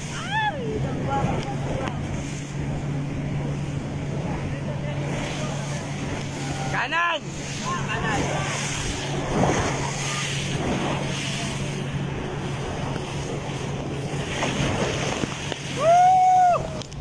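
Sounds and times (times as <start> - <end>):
boat engine drone: 0.0 - 17.0
wind and water spray rushing: 0.0 - 17.0.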